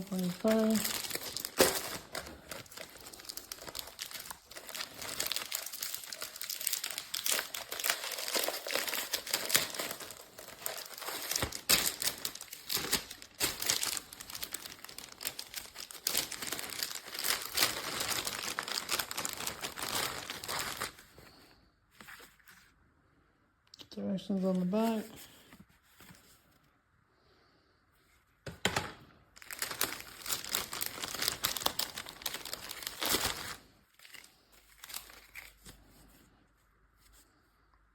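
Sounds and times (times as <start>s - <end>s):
packaging crinkling and rustling: 0.0s - 22.7s, 28.6s - 36.2s.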